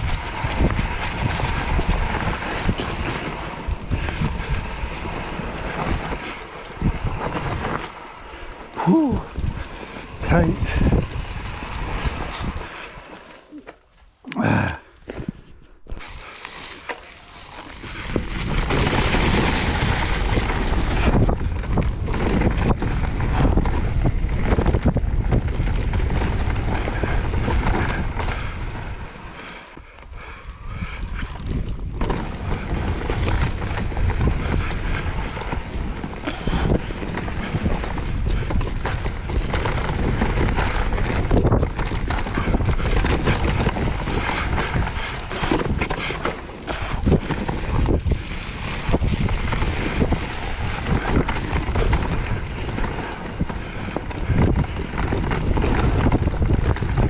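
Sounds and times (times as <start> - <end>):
wind rushing over microphone: 0.0 - 13.2, 17.6 - 57.0
tyres rattling over dirt trail: 0.0 - 57.0.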